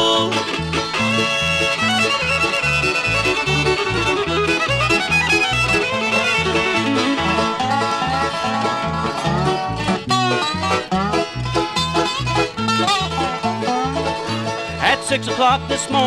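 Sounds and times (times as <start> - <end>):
banjo: 0.0 - 16.0
bluegrass band playing: 0.0 - 16.0
fiddle: 0.0 - 16.0.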